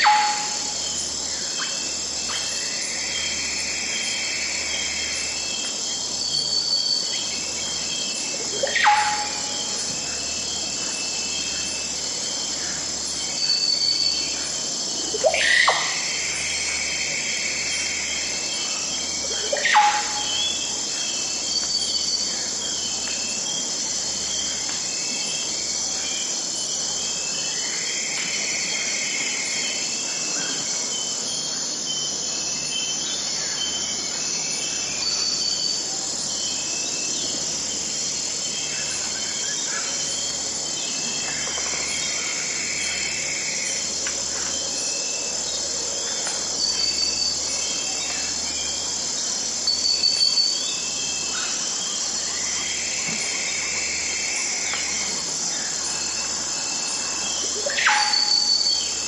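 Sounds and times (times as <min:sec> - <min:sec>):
insect chorus buzzing and trilling: 0:00.0 - 0:59.0.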